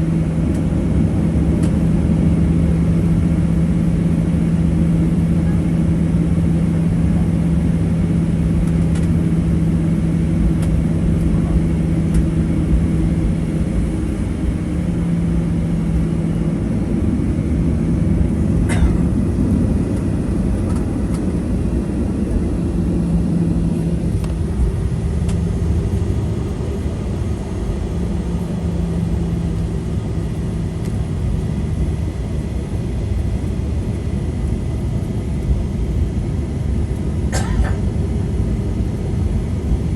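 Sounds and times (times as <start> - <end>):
low hum: 0.0 - 32.4
jet engines rumbling: 0.0 - 39.9.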